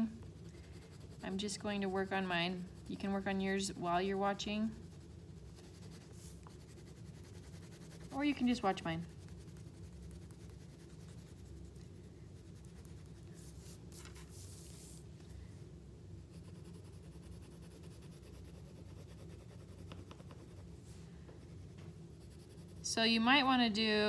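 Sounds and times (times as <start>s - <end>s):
low room hum: 0.0s - 24.0s
pencil scratching on paper: 0.2s - 15.0s, 16.3s - 20.7s, 21.5s - 22.9s.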